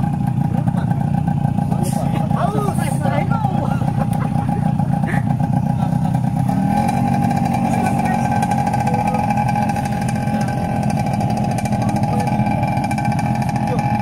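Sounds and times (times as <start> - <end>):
small motorcycle engines idling: 0.0 - 14.0.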